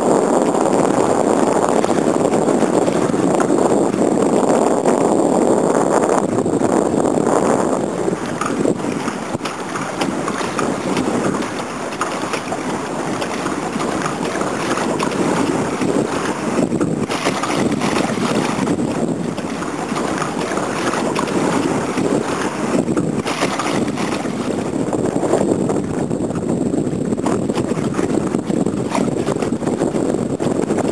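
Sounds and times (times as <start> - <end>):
water splashing against hull: 0.0 - 30.9
wind on microphone: 0.0 - 30.9.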